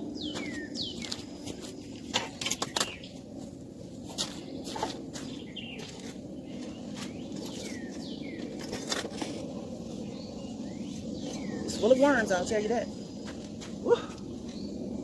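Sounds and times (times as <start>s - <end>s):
rustling and scraping of soil digging: 0.0s - 15.0s.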